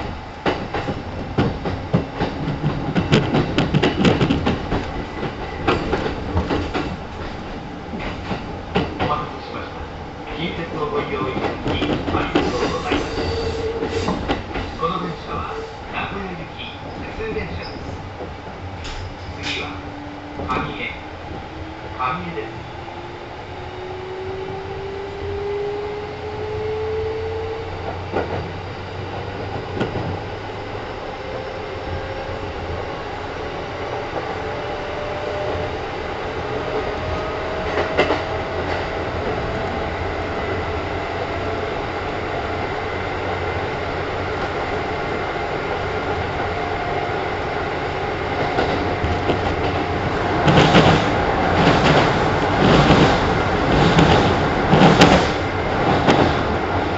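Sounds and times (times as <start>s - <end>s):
wheels clacking on track: 0.0s - 9.6s, 10.4s - 22.6s, 24.2s - 30.5s, 33.8s - 56.9s.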